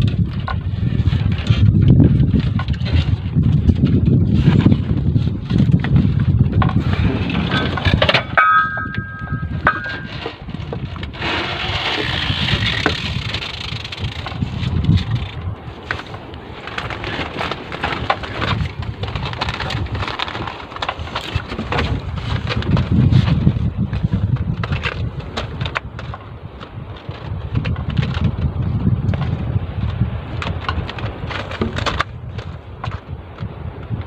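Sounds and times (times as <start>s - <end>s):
knocks and rustles of fishing gear: 0.0s - 34.0s
wind buffeting microphone: 0.0s - 34.0s.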